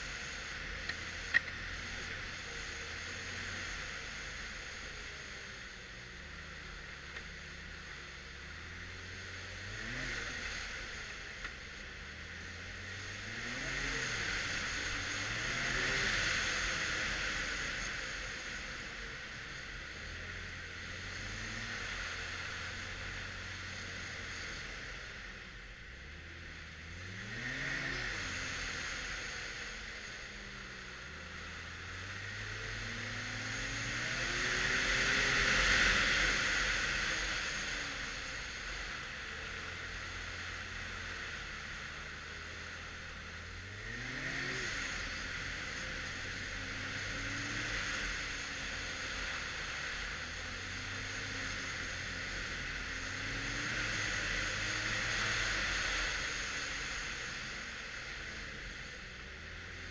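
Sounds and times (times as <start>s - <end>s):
snowmobile engine: 0.0s - 59.9s.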